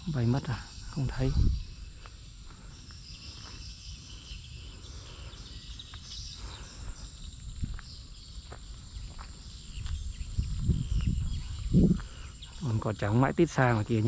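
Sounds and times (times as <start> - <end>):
wind rumbling on microphone: 0.0 - 5.8, 6.4 - 14.0
insects chirring: 0.0 - 14.0.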